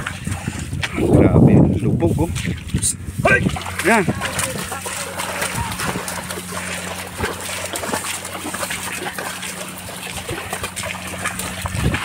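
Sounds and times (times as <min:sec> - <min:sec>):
hooves and wheels squelching in mud: 0:00.0 - 0:12.0.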